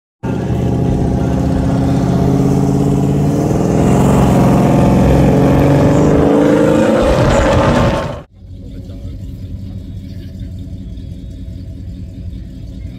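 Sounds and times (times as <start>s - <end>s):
car engine accelerating: 0.2s - 12.9s.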